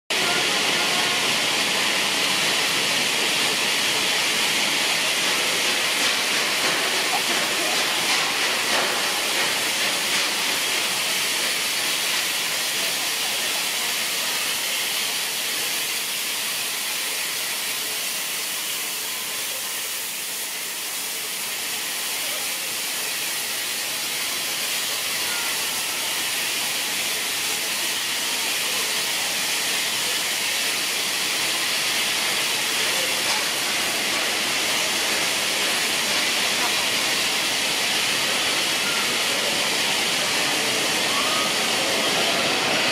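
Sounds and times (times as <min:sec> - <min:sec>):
steam locomotive hissing: 0:00.1 - 0:42.9.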